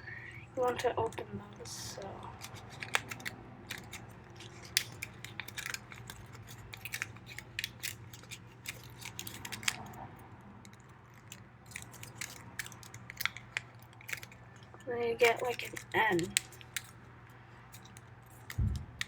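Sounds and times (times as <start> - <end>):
paper crinkling and crackling: 0.6 - 19.0.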